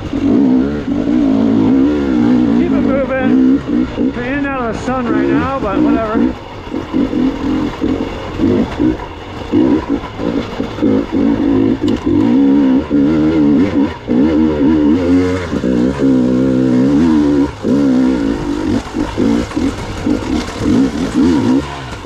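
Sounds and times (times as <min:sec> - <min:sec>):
two-stroke motorcycle engine: 0:00.0 - 0:22.0.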